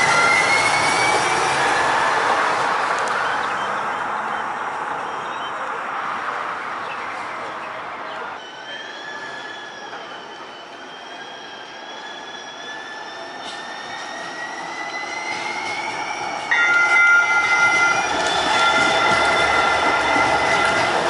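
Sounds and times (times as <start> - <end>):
tram electric whine: 0.0 - 5.7, 7.2 - 21.0
tram wheels squealing: 0.0 - 5.7, 7.2 - 21.0.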